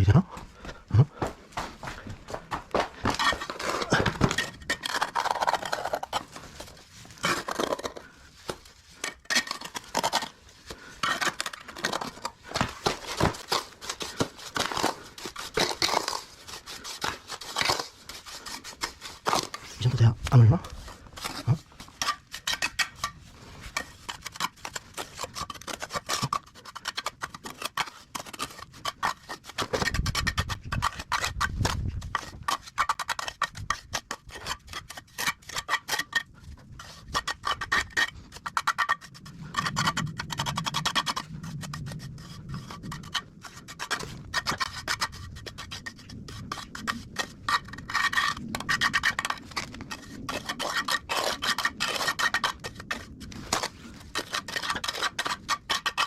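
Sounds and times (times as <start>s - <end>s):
trowel scraping wet mortar: 1.9s - 56.0s.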